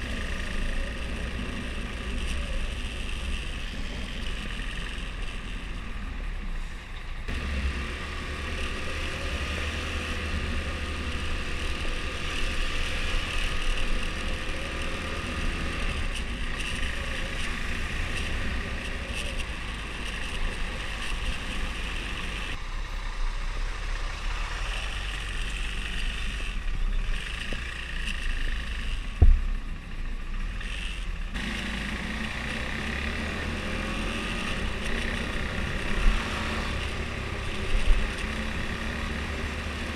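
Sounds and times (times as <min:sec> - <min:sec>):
motorcycle engine running: 0:00.0 - 0:06.4, 0:07.3 - 0:22.6, 0:24.3 - 0:39.9.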